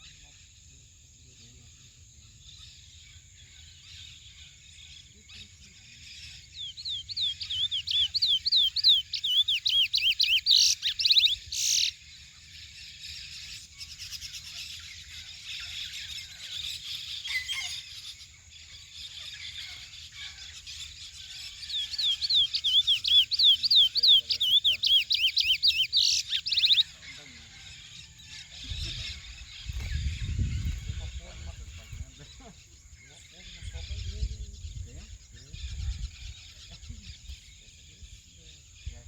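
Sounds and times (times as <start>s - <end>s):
bird twittering softly: 0.0s - 39.0s.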